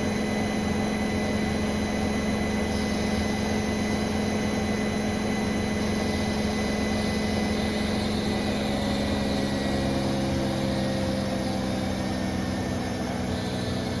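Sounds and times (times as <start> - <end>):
washing machine spin hum: 0.0 - 14.0.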